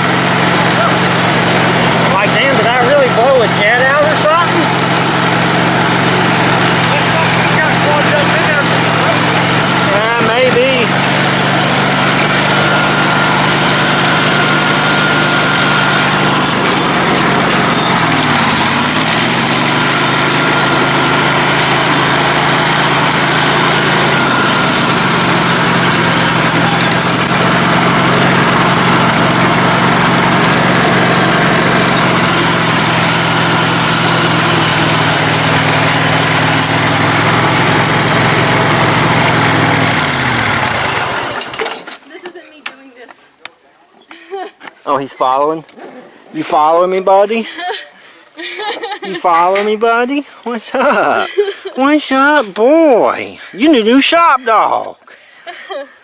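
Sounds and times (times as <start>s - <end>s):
riding lawn mower engine running: 0.0s - 42.1s, 46.1s - 54.3s.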